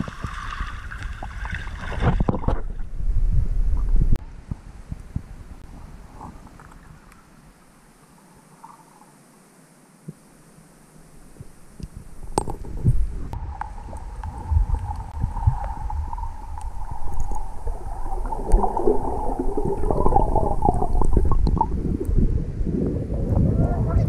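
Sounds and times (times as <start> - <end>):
underwater rumbling and gurgling: 0.0 - 7.2, 11.3 - 24.0.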